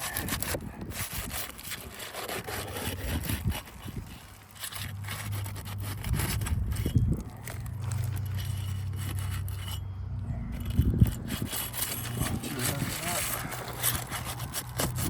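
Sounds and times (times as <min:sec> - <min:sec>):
scraping on roof shingles: 0:00.0 - 0:09.8, 0:10.5 - 0:15.0.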